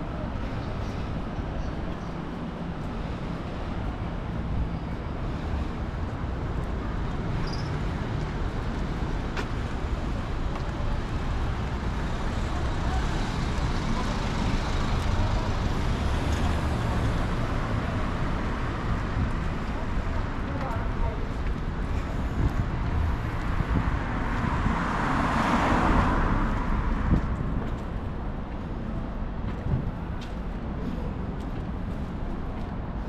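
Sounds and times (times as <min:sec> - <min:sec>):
passing cars rumble and tyre hiss: 0:00.0 - 0:33.0.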